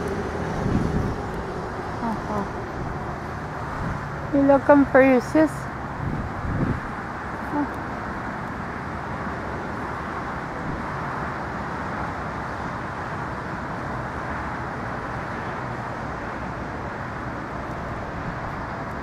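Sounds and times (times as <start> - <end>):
outdoor background rumble and hiss: 0.0 - 19.0.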